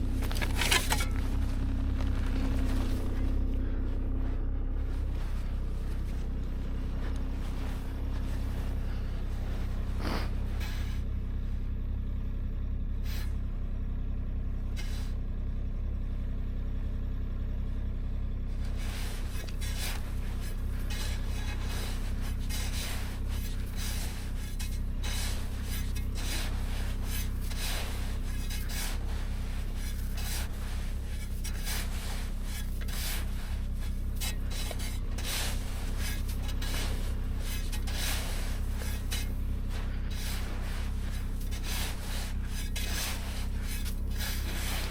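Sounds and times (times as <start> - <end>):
rubbing and scraping noises: 0.0 - 11.0, 18.6 - 44.9
low engine drone: 0.0 - 44.9.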